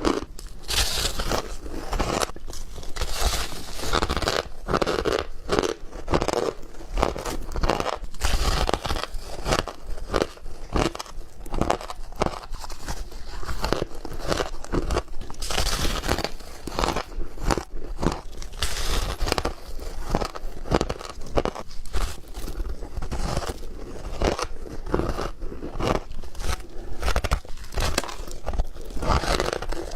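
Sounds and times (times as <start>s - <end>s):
ice being chewed: 0.0s - 29.9s.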